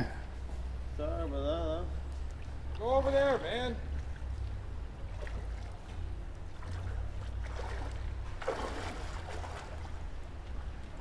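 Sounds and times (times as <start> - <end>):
river water flowing: 0.2 - 11.0.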